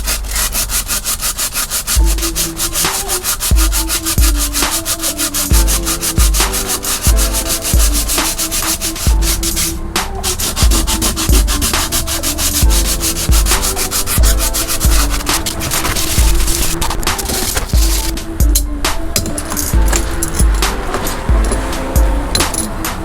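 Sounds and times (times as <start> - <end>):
electronic music: 1.9 - 23.0.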